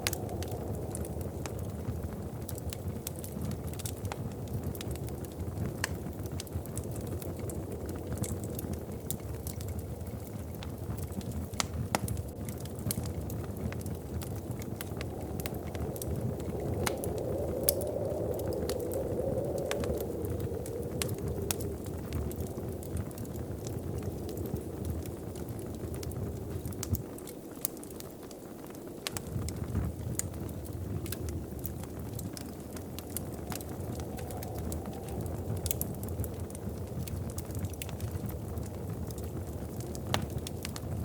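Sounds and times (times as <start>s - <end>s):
low rumble of burning fire: 0.0s - 41.0s
wood fire crackling and popping: 0.0s - 41.0s.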